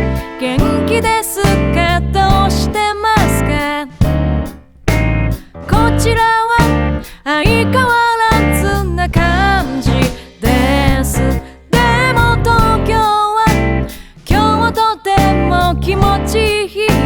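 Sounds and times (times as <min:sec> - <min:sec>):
pop song with full band: 0:00.0 - 0:17.0.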